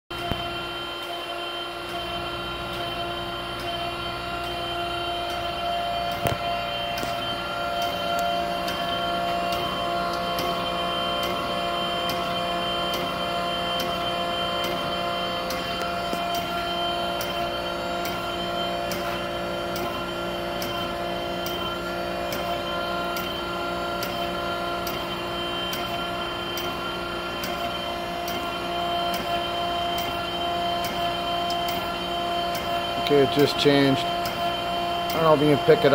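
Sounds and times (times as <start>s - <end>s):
surface grinder motor hum: 0.1s - 35.9s.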